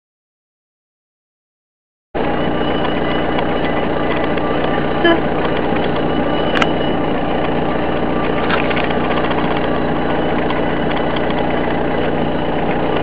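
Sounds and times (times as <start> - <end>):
engine humming steadily: 2.2 - 13.0.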